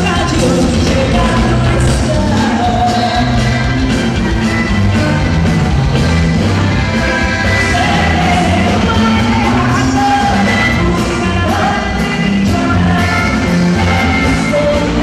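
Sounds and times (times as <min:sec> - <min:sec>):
band playing loud live music: 0:00.0 - 0:15.0.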